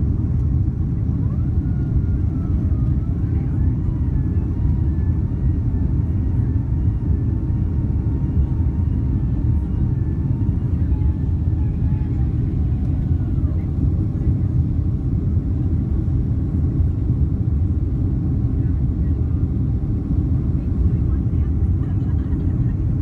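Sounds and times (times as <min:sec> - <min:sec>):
airplane cabin engine rumble: 0:00.0 - 0:23.0
wavering engine whine: 0:00.0 - 0:23.0.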